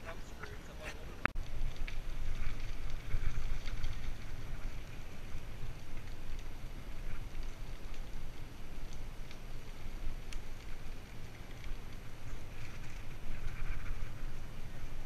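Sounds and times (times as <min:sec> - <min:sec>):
bicycle tyres on gravel: 0:00.0 - 0:15.0.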